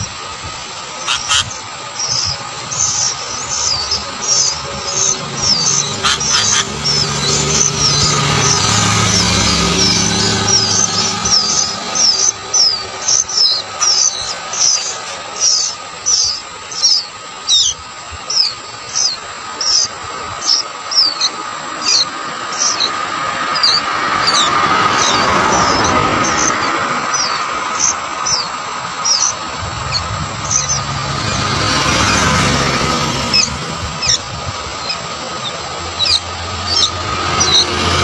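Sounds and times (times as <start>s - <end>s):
nestlings chirping: 0.0s - 0.2s, 0.9s - 38.0s.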